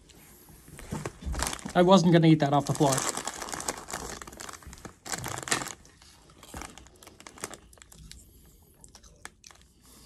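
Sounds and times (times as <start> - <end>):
plastic crisp packet crinkling: 1.1 - 10.0.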